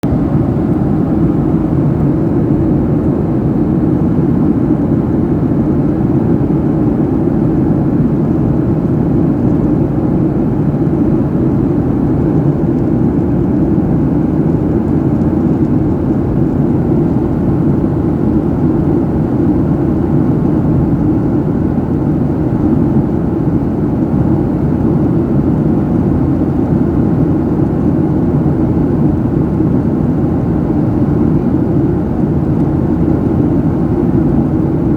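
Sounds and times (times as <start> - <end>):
airliner cabin noise: 0.0 - 34.9.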